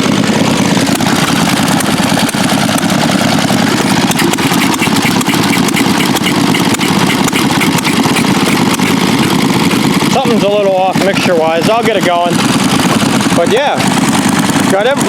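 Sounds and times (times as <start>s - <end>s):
small gasoline engines popping: 0.0s - 15.0s.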